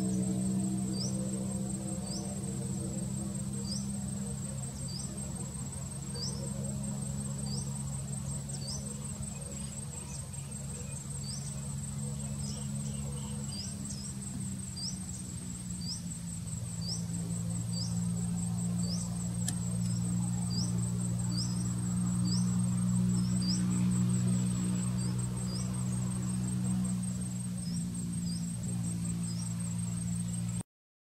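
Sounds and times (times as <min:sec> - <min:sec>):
insects chirring: 0:00.0 - 0:30.6
low steady hum: 0:00.0 - 0:30.6.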